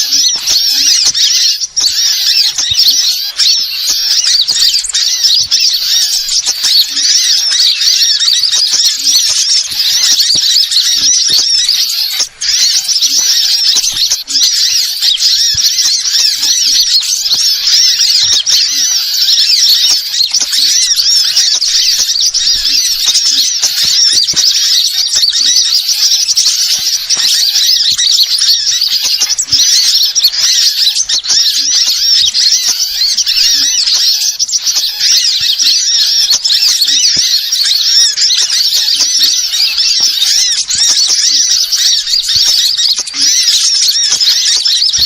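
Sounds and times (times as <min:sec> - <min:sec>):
flock of small birds chirping: 0:00.0 - 0:45.0.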